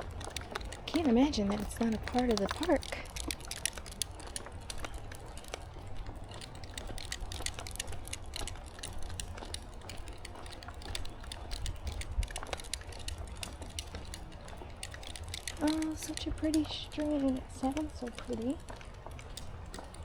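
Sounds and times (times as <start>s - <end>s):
footsteps crunching on a trail: 0.0s - 20.0s.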